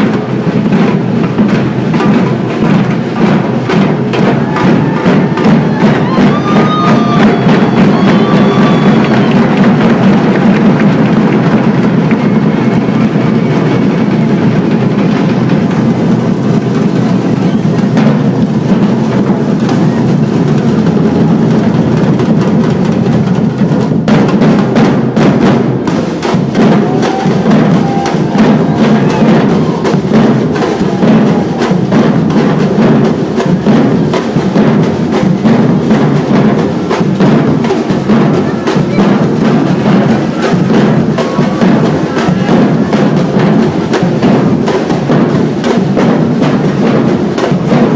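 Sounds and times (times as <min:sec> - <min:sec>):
percussion ensemble drumming: 0:00.0 - 0:47.9.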